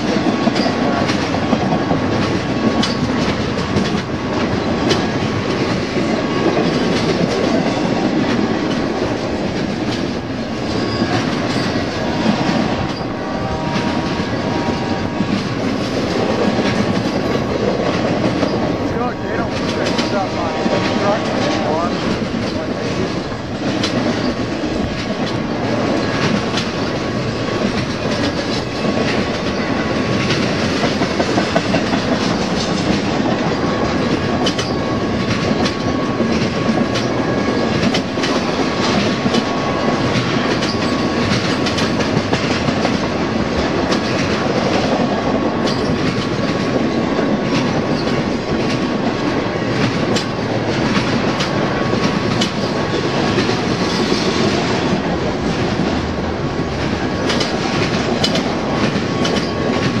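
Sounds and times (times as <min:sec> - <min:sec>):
freight train rumbling past: 0:00.0 - 1:00.0
wheels clacking over rail: 0:00.0 - 1:00.0.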